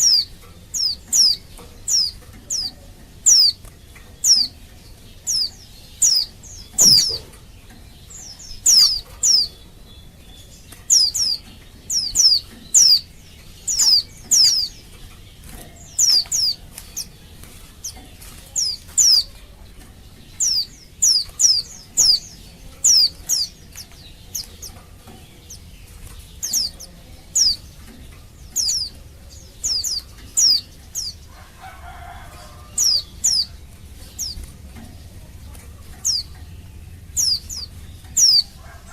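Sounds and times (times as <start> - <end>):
bird high chirps: 0.0 - 38.9.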